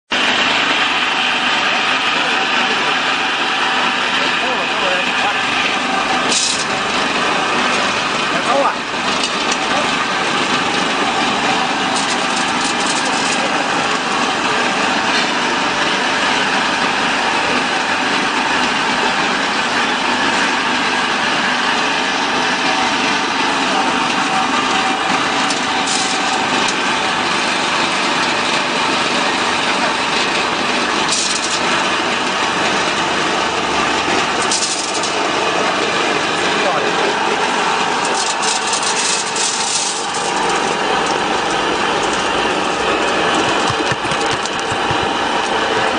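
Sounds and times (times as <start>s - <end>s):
feed pellet machine whine: 0.1s - 45.9s.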